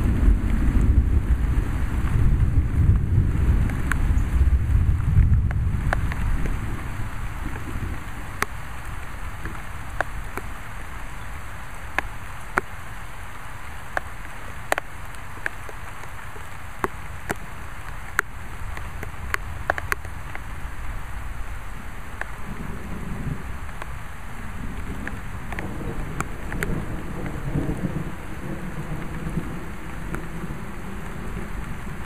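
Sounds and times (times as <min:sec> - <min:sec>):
large raindrops ticking: 0:00.0 - 0:32.0
rain hissing: 0:00.0 - 0:32.0.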